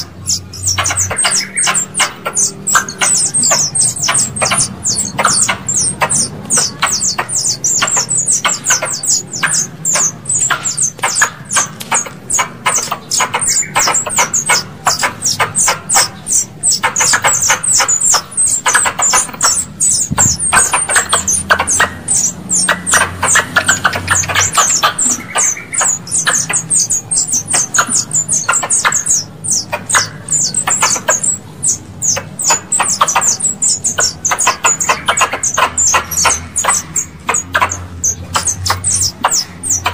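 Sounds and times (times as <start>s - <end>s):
squirrel calls high chirps: 0.0s - 39.9s.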